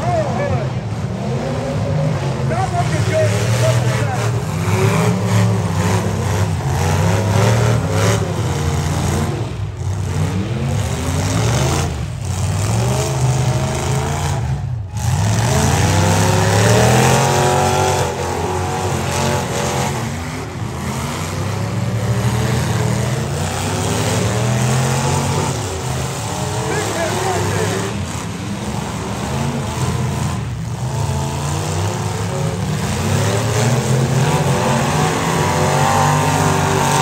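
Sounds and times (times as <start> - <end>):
car engines revving hard: 0.0 - 37.0.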